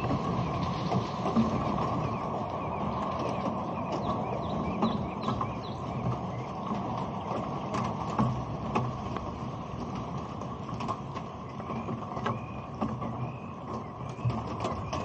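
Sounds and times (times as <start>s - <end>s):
rain patter: 0.0s - 15.0s
raindrops ticking on camera body: 0.0s - 15.0s.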